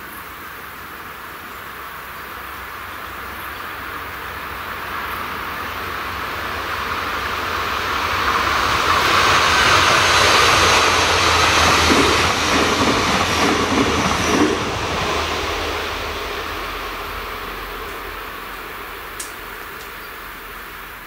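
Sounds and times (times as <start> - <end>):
train passing: 0.0 - 21.0.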